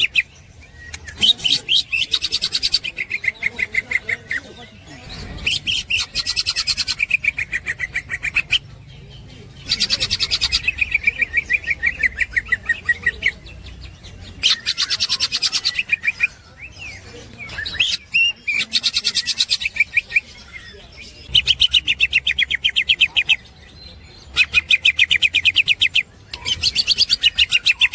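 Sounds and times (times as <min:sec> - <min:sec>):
bird rapid chattering song: 0:00.0 - 0:27.9.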